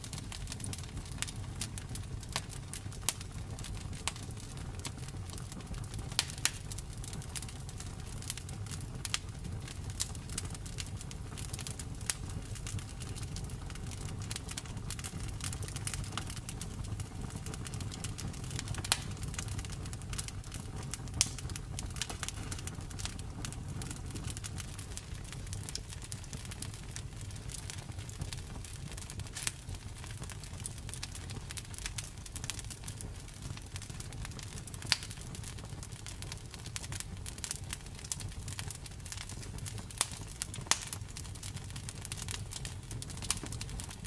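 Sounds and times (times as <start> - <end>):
low rumble of burning fire: 0.0 - 44.0
wood fire snapping and popping: 0.0 - 44.0.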